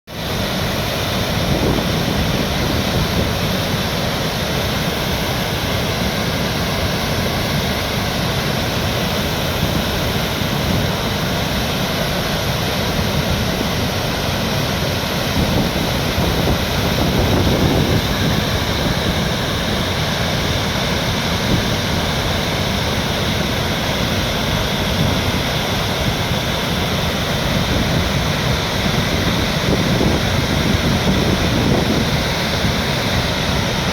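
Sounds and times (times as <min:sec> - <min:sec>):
flowing water rushing: 0:00.1 - 0:33.9.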